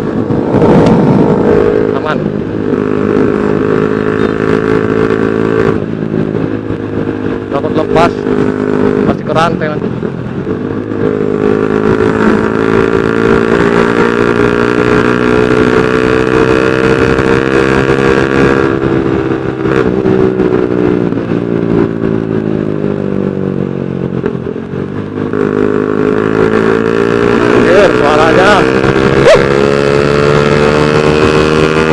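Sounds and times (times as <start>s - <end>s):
motorcycle engine exhaust: 0.0s - 31.9s.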